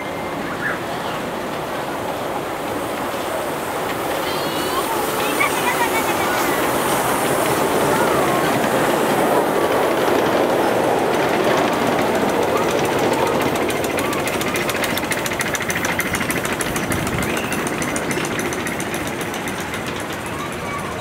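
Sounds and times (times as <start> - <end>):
steam locomotive chuffing: 0.0 - 21.0
train wheels clattering on rails: 0.0 - 21.0.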